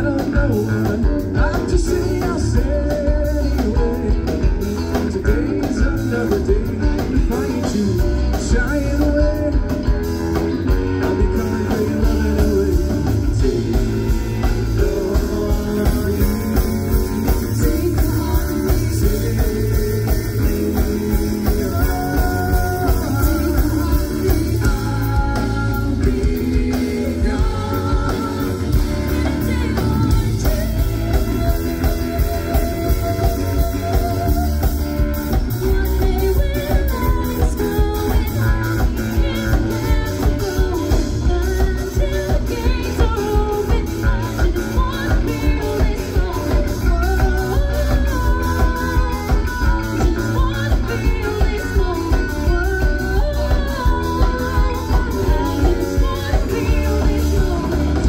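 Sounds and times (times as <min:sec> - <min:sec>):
bass: 0:00.0 - 0:58.0
drum kit beat: 0:00.0 - 0:58.0
electric guitar: 0:00.0 - 0:58.0.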